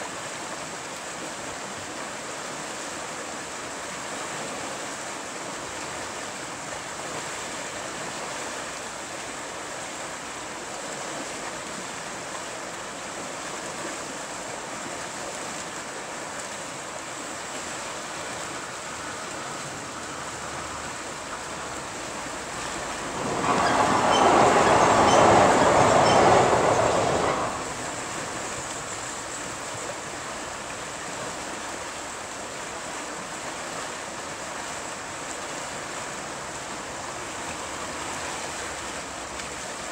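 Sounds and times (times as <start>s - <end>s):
white water rushing over rapids: 0.0s - 39.9s.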